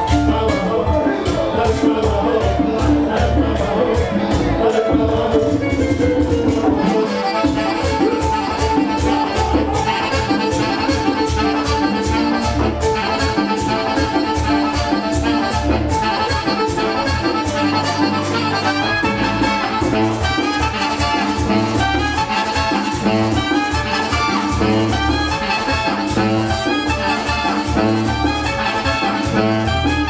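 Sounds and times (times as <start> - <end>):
live merengue band playing: 0.0 - 30.0
saxophone melody: 0.8 - 30.0.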